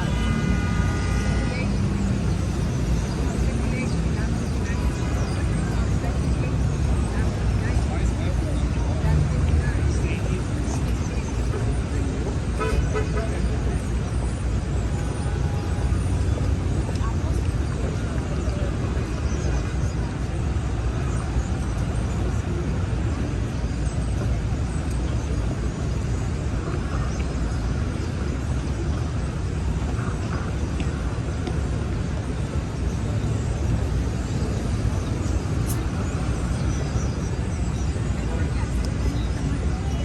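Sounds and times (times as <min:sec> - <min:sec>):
low rumble of traffic: 0:00.0 - 0:40.0.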